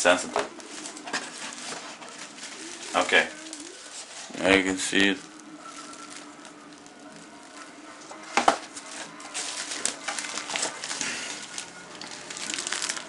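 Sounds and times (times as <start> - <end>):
bubble wrap crackling and rustling: 0.0 - 13.0.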